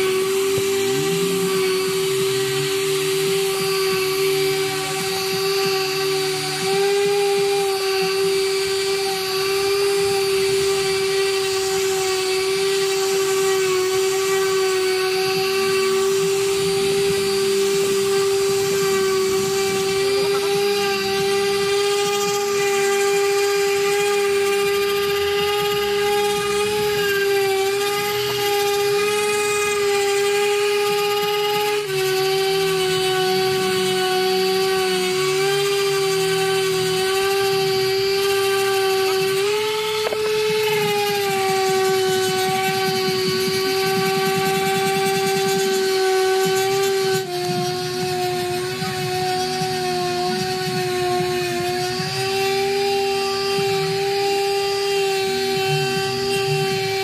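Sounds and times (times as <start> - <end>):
orbital sander whine: 0.0 - 57.0.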